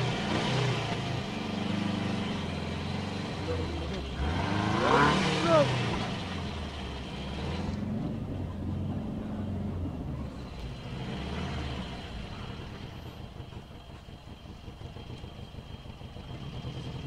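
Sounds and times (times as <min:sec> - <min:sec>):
car engine hum: 0:00.0 - 0:17.0
road noise inside car: 0:00.0 - 0:17.0.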